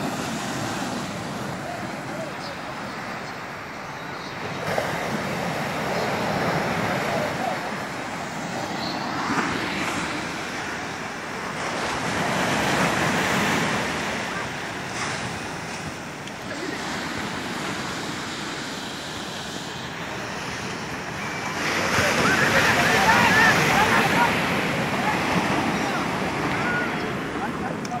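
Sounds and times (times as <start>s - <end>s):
surf breaking on shore: 0.0s - 28.0s.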